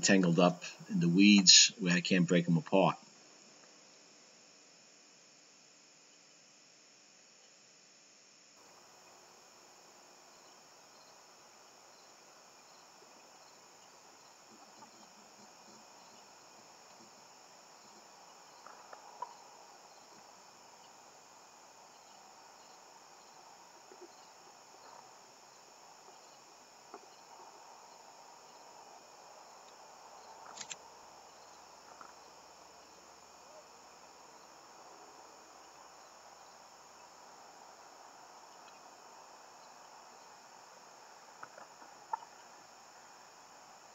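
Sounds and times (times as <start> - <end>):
insects chorus: 0.0 - 43.9.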